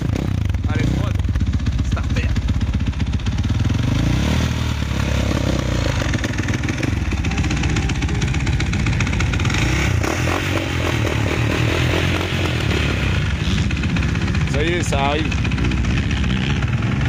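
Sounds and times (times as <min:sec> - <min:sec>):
motocross bike engine running unevenly: 0:00.0 - 0:17.0.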